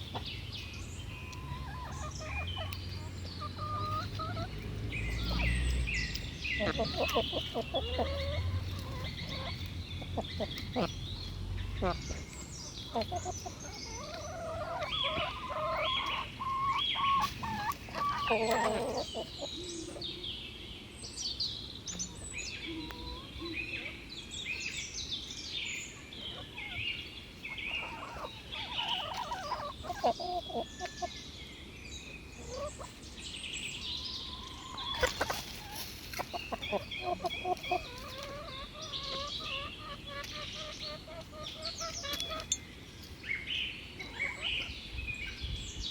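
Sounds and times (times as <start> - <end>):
chickens clucking: 0.0 - 20.4, 21.5 - 31.4, 32.0 - 45.9
small birds chirping: 0.0 - 45.9.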